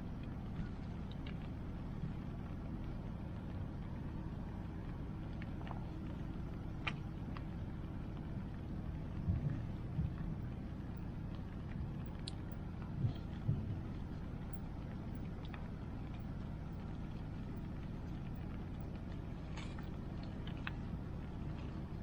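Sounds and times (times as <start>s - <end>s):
wood fire crackling: 0.0s - 22.0s
soft low thumps: 3.1s - 22.0s.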